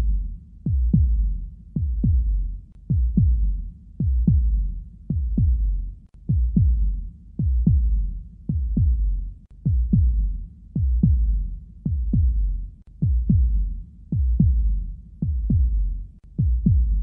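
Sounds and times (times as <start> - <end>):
heartbeat thumps: 0.0 - 17.0.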